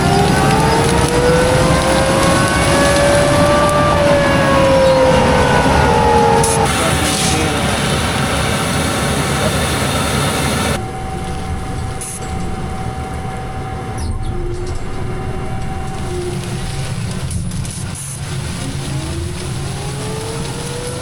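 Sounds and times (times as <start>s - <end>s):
farm machinery engine rumble: 0.0s - 21.0s
steady whine: 0.0s - 21.0s.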